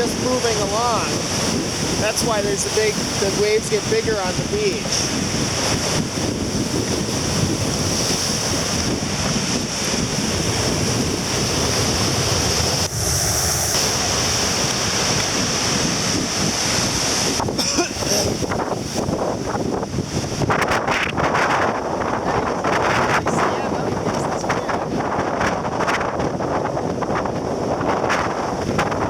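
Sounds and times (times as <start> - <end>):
surf breaking on shore: 0.0 - 29.0
wind buffeting microphone: 0.0 - 29.0.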